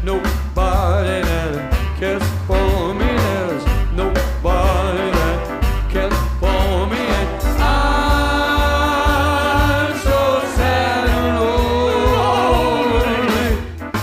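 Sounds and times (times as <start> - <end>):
person singing wordless notes: 0.0 - 13.8
live band music: 0.0 - 14.0
pulsing bass: 0.0 - 14.0.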